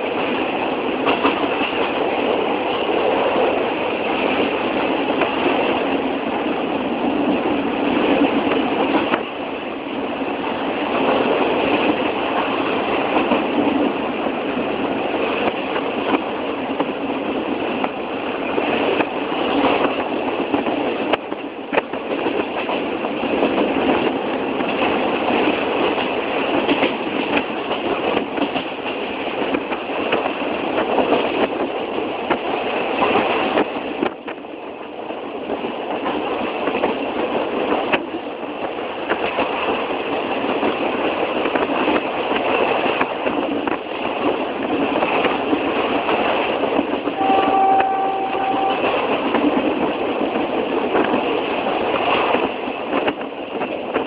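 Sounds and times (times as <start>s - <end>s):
train running on track: 0.0s - 54.0s.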